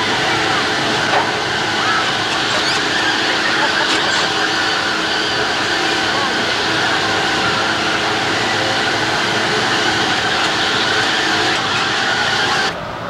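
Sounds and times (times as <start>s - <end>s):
amusement park din: 0.0s - 13.0s
kiddie ride mechanical running: 0.0s - 13.0s.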